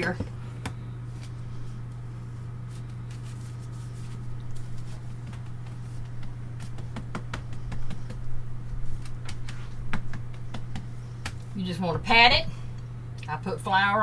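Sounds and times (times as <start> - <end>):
hands patting dough: 0.0 - 12.2
steady low hum: 0.0 - 14.0.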